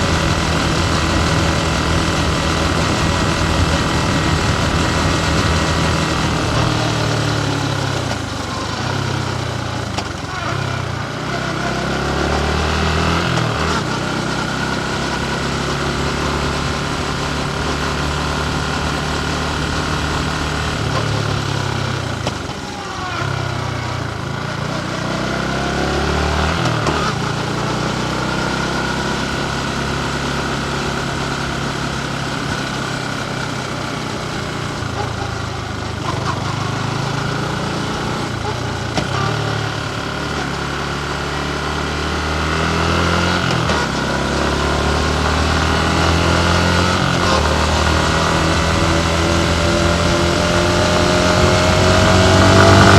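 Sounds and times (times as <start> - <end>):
motorcycle engine revving: 0.0 - 52.9
road noise: 0.0 - 52.9
wind: 0.0 - 52.9.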